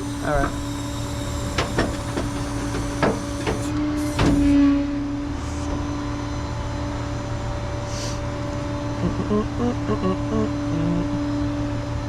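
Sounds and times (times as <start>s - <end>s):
tow truck engine running: 0.0s - 12.0s.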